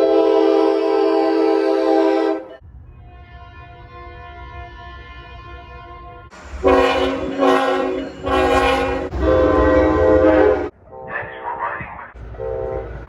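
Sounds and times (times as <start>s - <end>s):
loud locomotive horn blasts: 0.0s - 11.6s, 12.2s - 13.0s
faint locomotive horn: 0.0s - 13.0s.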